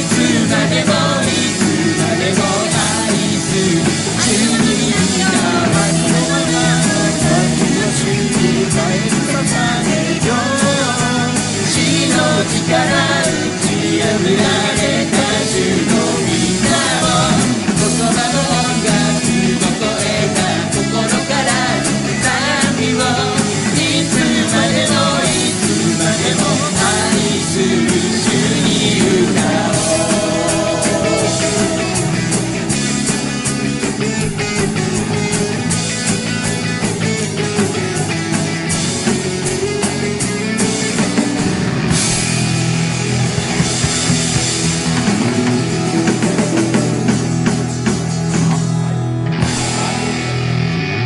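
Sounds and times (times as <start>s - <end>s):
drum kit: 0.0s - 51.0s
electric guitars: 0.0s - 51.0s.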